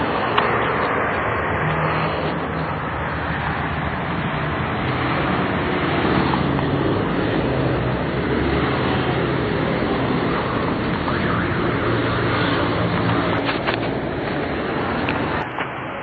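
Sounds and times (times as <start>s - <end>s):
traffic running by: 0.0s - 16.0s.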